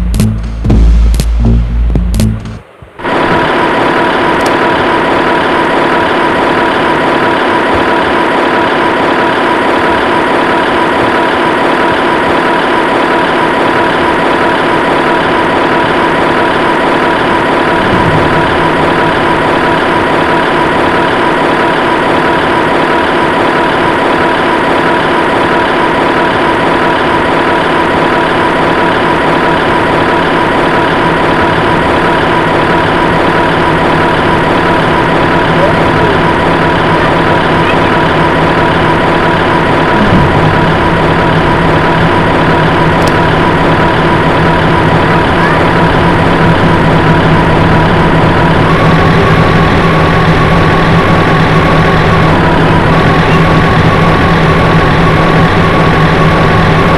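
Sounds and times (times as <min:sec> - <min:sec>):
heavy vehicle engine idling: 0:00.0 - 0:56.9.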